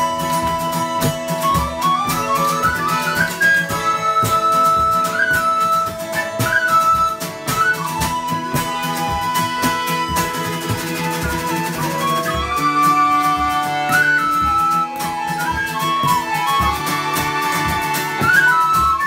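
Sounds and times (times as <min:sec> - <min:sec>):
accordion: 0:00.0 - 0:19.0
strummed acoustic guitar: 0:00.0 - 0:19.0
whistles playing melody: 0:00.0 - 0:19.0.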